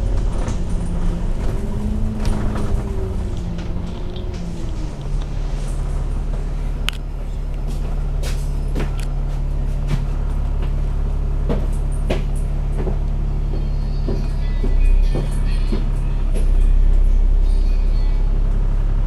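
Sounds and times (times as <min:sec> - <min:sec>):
bus body clicks and rattles: 0:00.0 - 0:17.3
bus diesel engine idling: 0:00.0 - 0:19.0.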